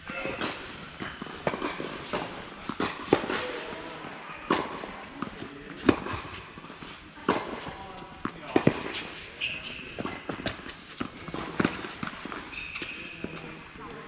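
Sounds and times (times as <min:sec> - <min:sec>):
ball bouncing on court: 0:00.1 - 0:06.4, 0:07.3 - 0:09.0, 0:10.0 - 0:13.4
tennis ball striking rackets: 0:00.1 - 0:09.4, 0:10.0 - 0:13.5.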